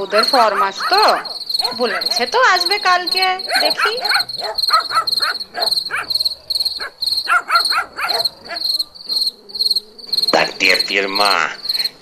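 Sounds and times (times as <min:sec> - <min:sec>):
dog barking: 0:00.0 - 0:10.8
crickets chirping: 0:00.0 - 0:12.0.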